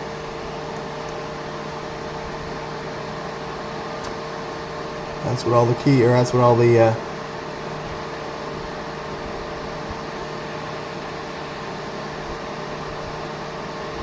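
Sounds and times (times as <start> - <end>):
fan-like hum and hiss: 0.0 - 14.0.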